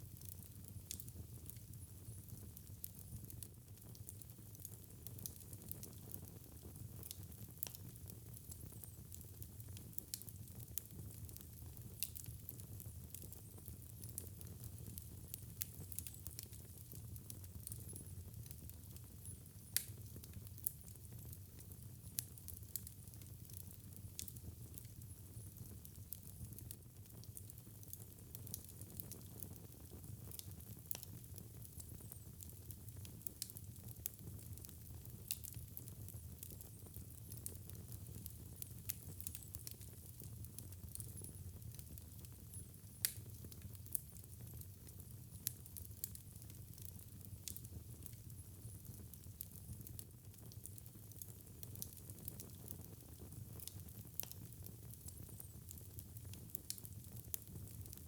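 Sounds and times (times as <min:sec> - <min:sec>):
wood fire burning: 0:00.0 - 0:58.0.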